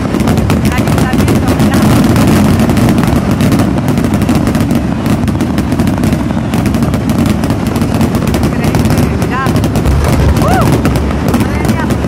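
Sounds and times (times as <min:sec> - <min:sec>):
firework rockets banging: 0:00.0 - 0:12.0.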